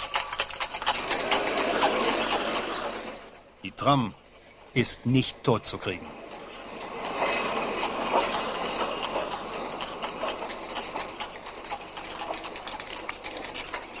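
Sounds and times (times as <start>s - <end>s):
mechanical clattering and rattling: 0.0s - 3.5s, 5.6s - 14.0s.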